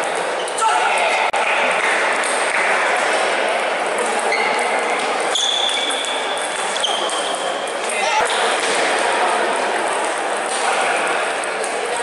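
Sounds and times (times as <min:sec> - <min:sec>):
background chatter: 0:00.0 - 0:12.0.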